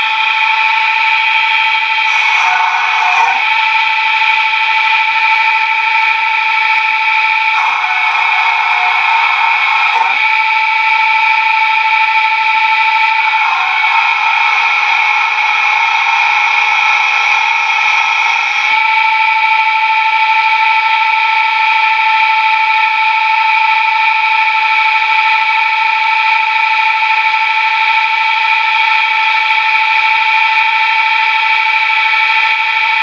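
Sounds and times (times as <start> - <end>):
lathe motors whining: 0.0 - 33.0.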